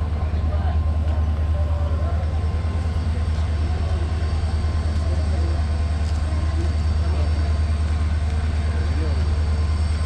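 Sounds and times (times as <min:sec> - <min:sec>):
train droning: 0:00.0 - 0:10.0.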